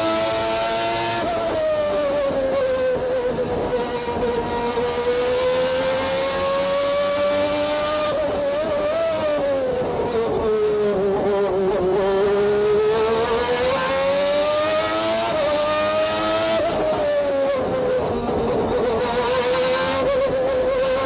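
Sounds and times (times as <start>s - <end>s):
racing car engine: 0.0s - 21.0s.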